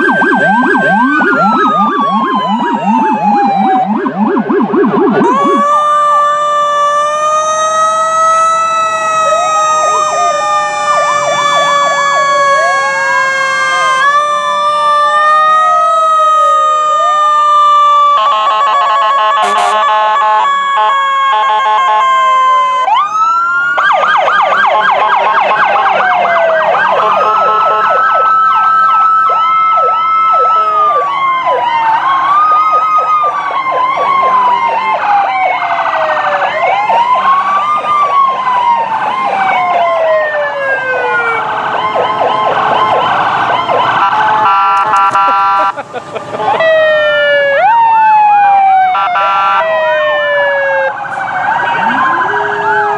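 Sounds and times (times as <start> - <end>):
emergency sirens wailing: 0.0 - 52.9
fast siren yelp: 0.0 - 52.9.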